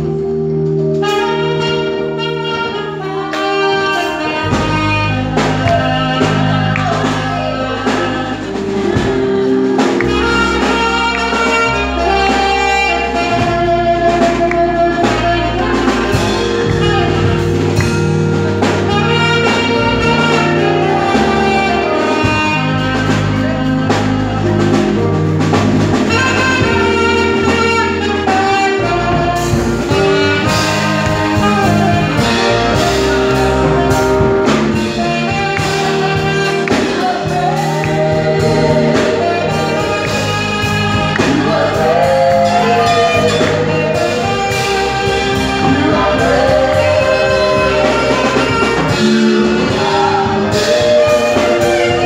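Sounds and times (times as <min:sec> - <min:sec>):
carol sung with instruments: 0:03.0 - 0:52.0.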